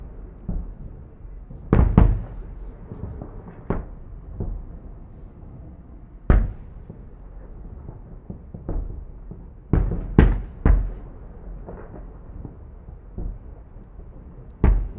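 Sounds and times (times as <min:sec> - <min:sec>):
fireworks booming: 0:00.0 - 0:14.9.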